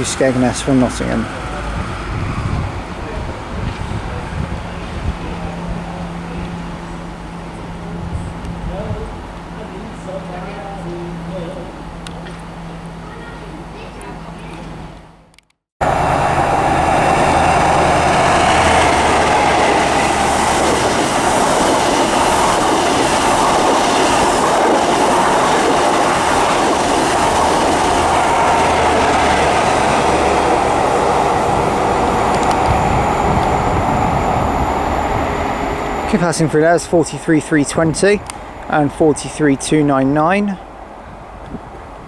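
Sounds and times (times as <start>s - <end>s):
diesel train passing: 0.0s - 15.2s, 15.8s - 42.0s.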